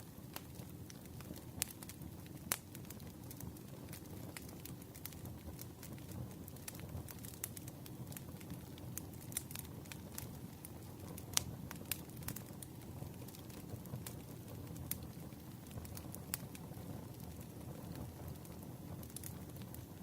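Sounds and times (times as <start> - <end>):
campfire crackling: 0.0 - 20.0
burning wood popping: 0.3 - 20.0.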